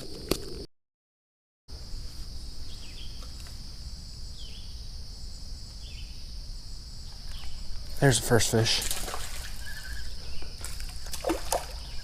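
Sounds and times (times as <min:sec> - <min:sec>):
insects droning high-pitched: 0:01.7 - 0:12.0.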